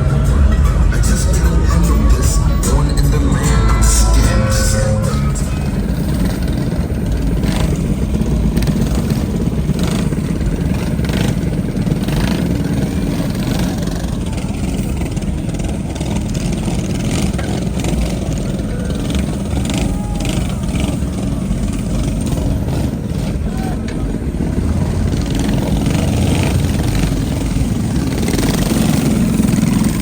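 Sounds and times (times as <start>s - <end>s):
vehicle engines rumbling: 0.0s - 30.0s.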